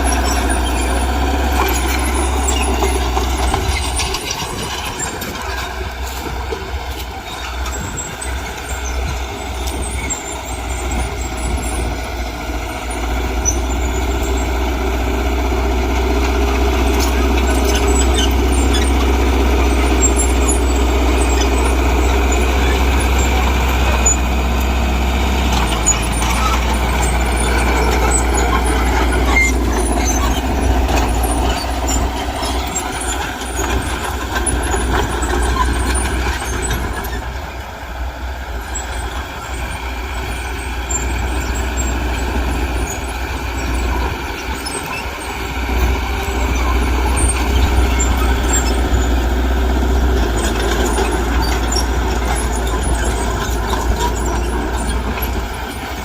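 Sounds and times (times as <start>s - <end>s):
high squeal: 0.0s - 37.4s, 38.6s - 56.0s
diesel machinery running: 0.0s - 56.0s.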